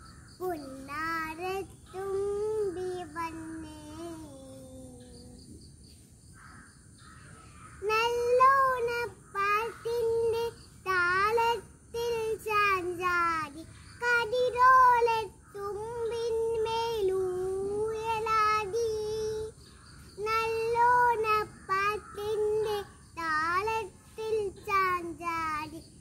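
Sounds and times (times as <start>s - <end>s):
girl singing unaccompanied: 0.3s - 5.7s, 7.8s - 26.0s.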